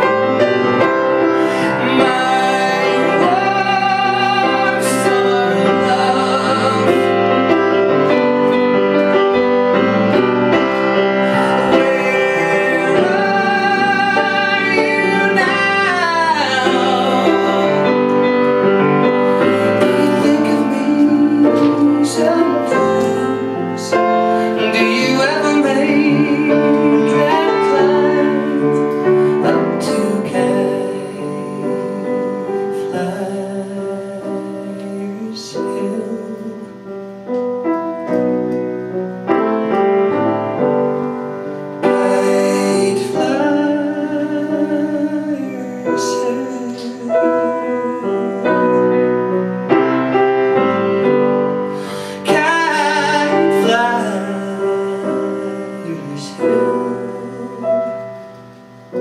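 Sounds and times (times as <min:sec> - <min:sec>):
man singing a slow ballad: 0:00.0 - 0:37.3, 0:41.8 - 0:49.6, 0:51.0 - 0:58.3
piano accompaniment: 0:00.0 - 0:59.0.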